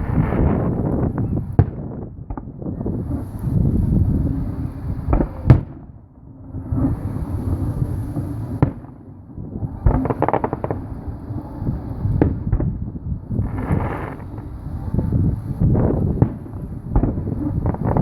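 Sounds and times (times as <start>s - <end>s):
fireworks bangs: 0.0s - 18.0s
rapid fireworks crackling: 0.0s - 18.0s
steady low rumble: 0.0s - 18.0s.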